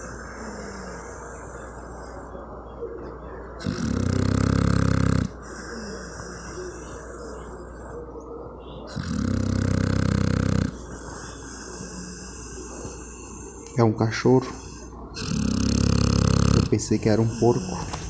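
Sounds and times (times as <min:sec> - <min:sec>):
dog snoring: 0:00.0 - 0:02.2, 0:03.6 - 0:08.0, 0:08.8 - 0:13.6, 0:14.4 - 0:18.0.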